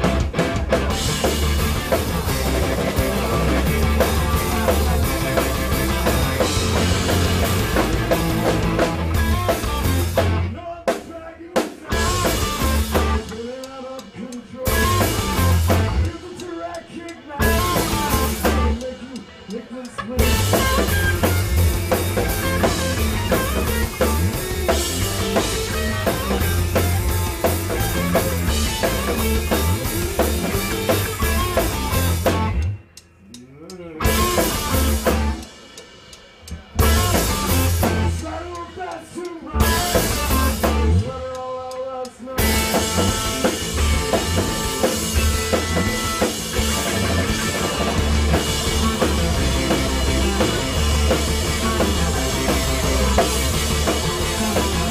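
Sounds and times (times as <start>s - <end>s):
rock band playing loud: 0.0s - 33.2s, 33.8s - 54.9s.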